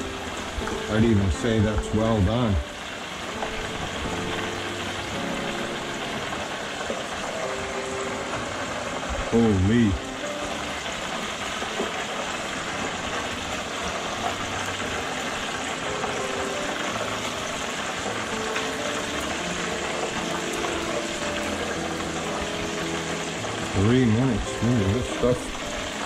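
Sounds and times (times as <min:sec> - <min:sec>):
food sizzling in deep fryer: 0:00.0 - 0:26.0.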